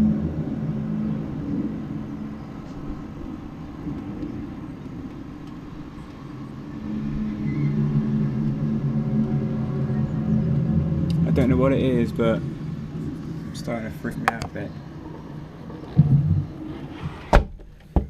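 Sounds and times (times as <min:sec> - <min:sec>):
low droning hum from the sky: 0:00.0 - 0:18.0.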